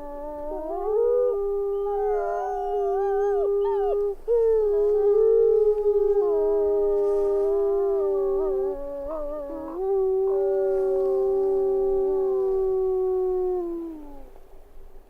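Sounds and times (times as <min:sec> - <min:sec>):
wolves howling: 0:00.0 - 0:14.3.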